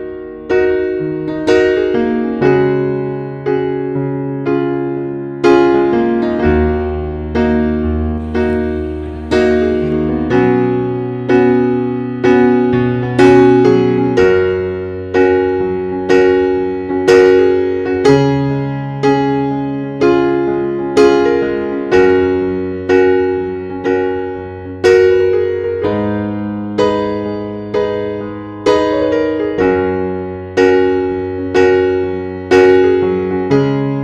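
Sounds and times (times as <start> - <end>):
slow piano chords: 0.0 - 34.0.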